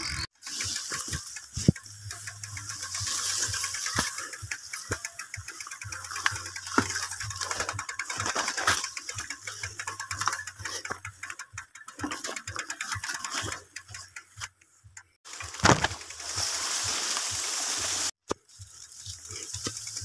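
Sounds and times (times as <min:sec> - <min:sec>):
bicycle freehub clicking: 0:00.0 - 0:20.0
bike rattling over rough ground: 0:00.0 - 0:20.0.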